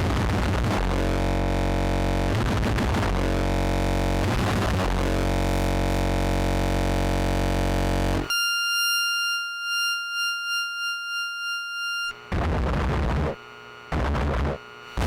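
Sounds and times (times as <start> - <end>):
buzzing synthesizer drone: 0.0 - 8.3, 9.7 - 15.0.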